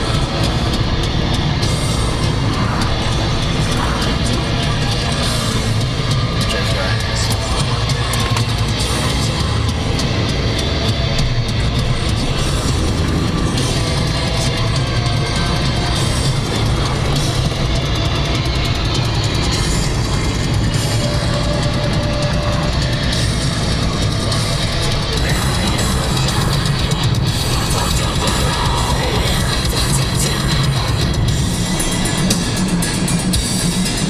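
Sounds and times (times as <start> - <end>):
heavy rock music: 0.0 - 34.0.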